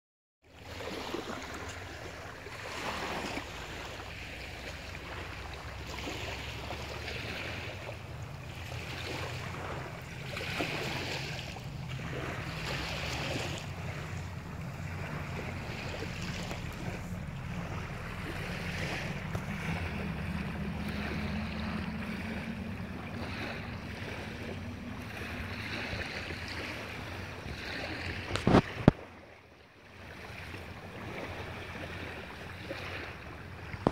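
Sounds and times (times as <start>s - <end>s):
surf on a beach: 0.5s - 33.9s
wind buffeting microphone: 1.2s - 29.1s.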